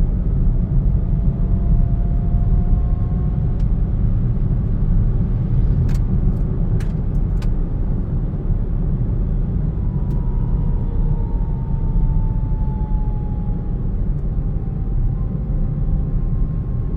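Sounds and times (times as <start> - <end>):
car driving low rumble: 0.0 - 16.9.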